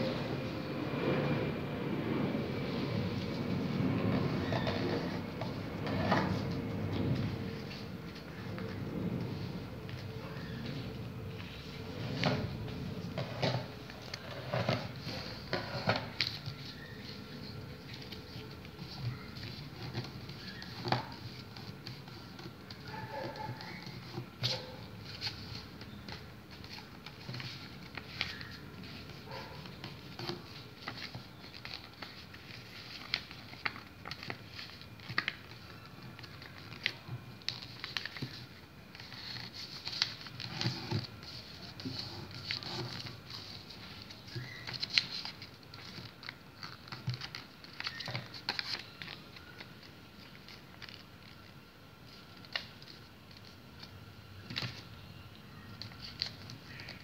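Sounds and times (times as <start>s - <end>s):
paper rustling and crinkling: 2.5s - 57.0s.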